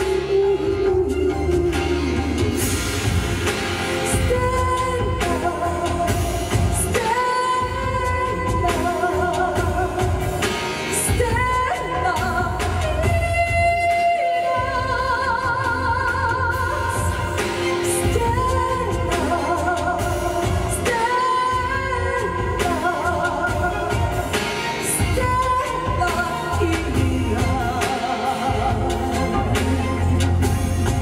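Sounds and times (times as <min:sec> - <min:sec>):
show music with singing: 0:00.0 - 0:31.0.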